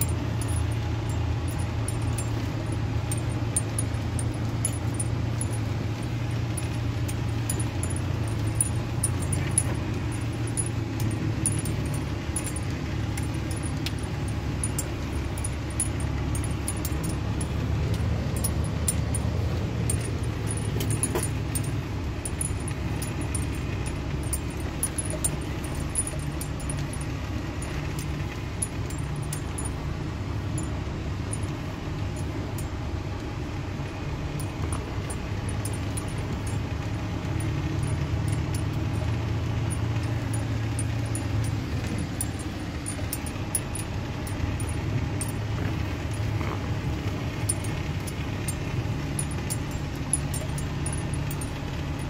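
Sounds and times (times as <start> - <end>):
loose parts rattling: 0.0 - 32.7, 34.4 - 52.0
truck engine and tyres droning: 0.0 - 52.0.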